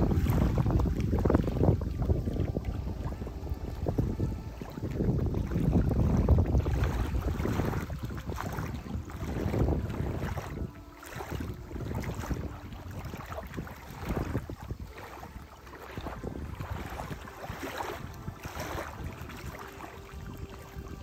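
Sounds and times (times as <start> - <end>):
water lapping at shore: 0.0 - 21.0
wind gusting over microphone: 0.0 - 21.0.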